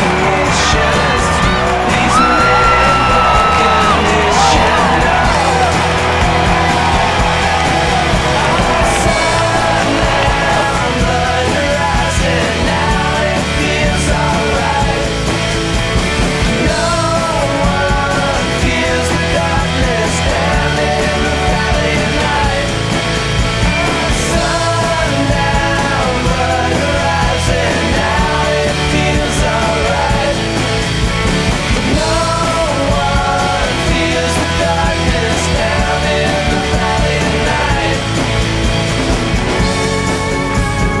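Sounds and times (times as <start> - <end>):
rock music with sung vocals: 0.0 - 41.0.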